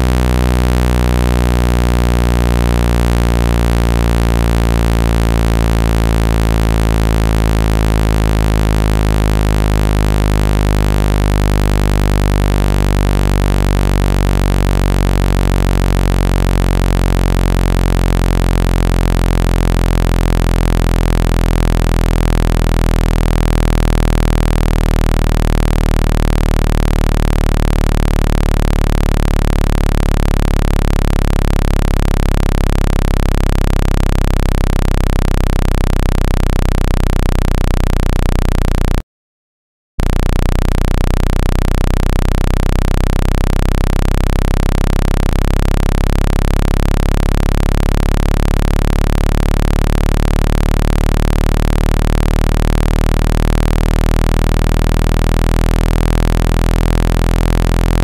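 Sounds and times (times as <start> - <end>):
low electronic buzzing tone: 0.0 - 39.0, 40.0 - 58.0.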